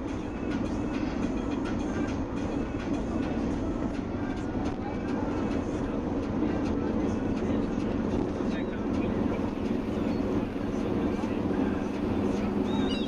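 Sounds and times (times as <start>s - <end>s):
vehicle rumble inside cabin: 0.0s - 13.0s.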